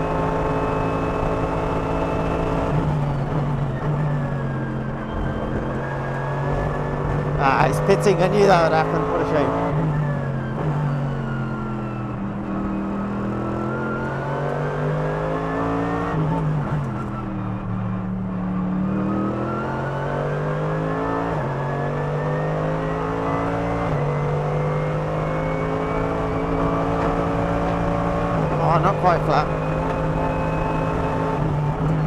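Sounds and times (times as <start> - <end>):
race car engine at speed: 0.0 - 32.0.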